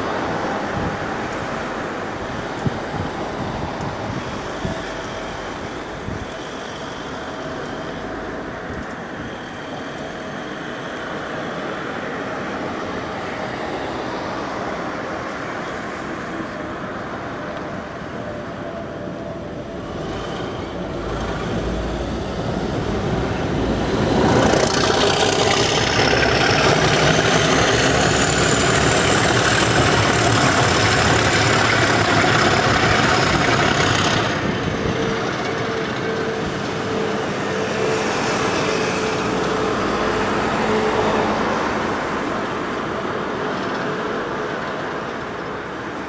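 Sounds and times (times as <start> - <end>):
locomotive hum: 0.0 - 46.0
train wheels rumbling on rails: 0.0 - 46.0.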